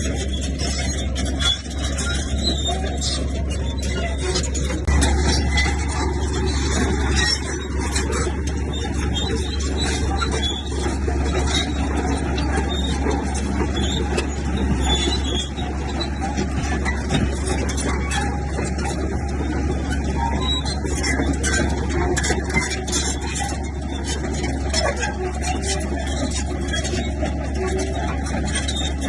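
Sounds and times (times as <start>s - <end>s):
low diesel engine drone: 0.0s - 29.0s
machinery rattling and clanking: 0.0s - 29.0s.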